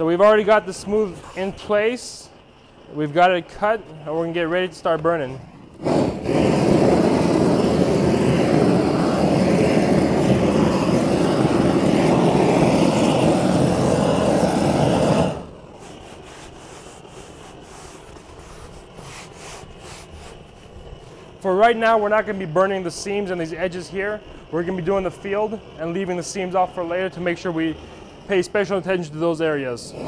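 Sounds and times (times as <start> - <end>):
torch flame roaring: 0.0 - 30.0.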